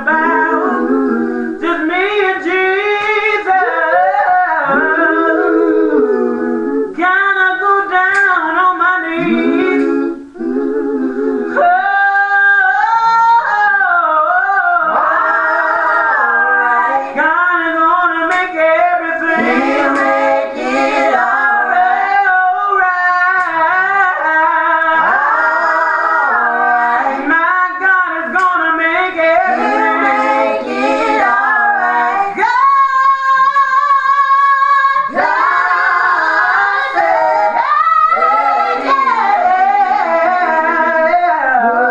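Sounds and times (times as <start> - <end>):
woman singing gospel song: 0.0 - 41.9.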